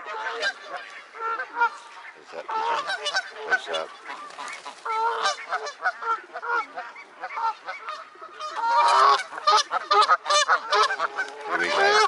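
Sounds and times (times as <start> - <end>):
waterfowl calling: 0.0 - 12.0.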